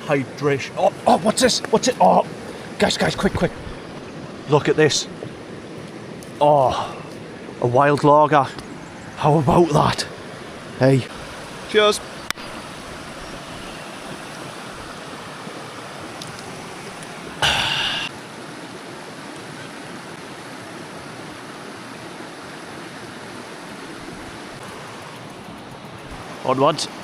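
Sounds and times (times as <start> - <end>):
creek water flowing: 0.0 - 27.0.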